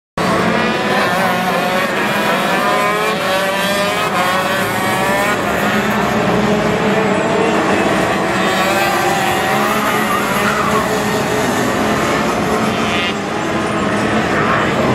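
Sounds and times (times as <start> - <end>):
go-kart engines revving: 0.2 - 14.9.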